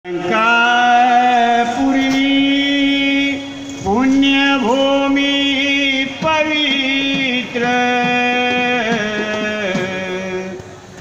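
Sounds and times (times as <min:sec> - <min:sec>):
man singing devotional song: 0:00.0 - 0:10.6.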